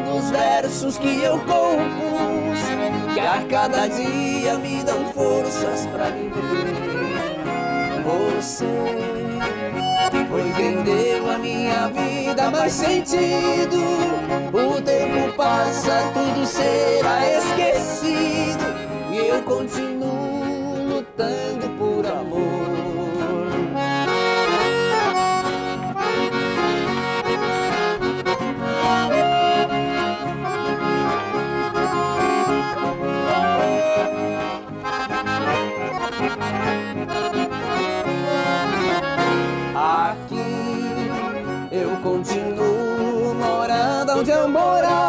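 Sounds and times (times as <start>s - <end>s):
accordion melody: 0.0s - 45.0s
guitar accompaniment: 0.0s - 45.0s.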